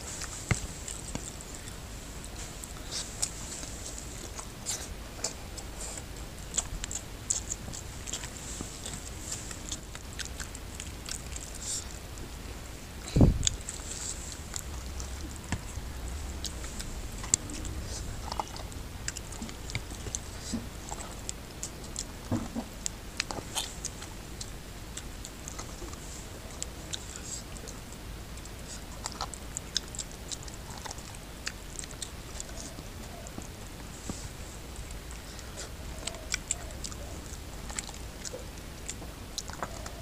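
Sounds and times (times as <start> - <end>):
sticky squelches of food: 0.0 - 40.0
wet chewing and smacking: 0.0 - 40.0.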